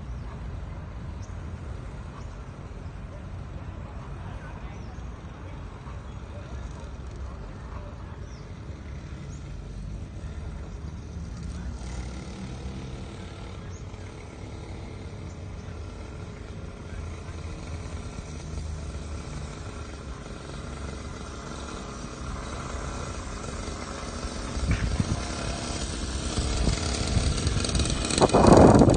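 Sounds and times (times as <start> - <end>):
small dirt bike engine running: 0.0 - 28.9.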